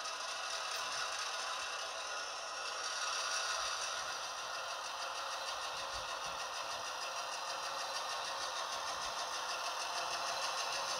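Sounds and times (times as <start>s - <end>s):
model locomotive motor whirring: 0.0s - 10.9s.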